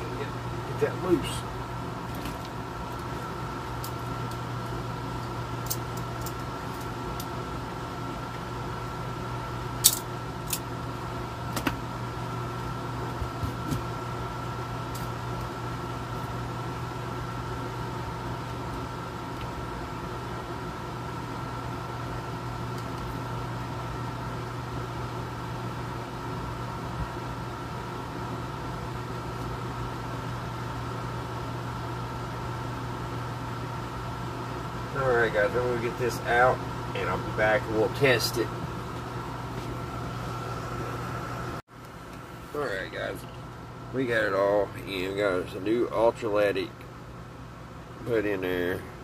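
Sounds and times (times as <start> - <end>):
air conditioner humming: 0.0 - 49.0.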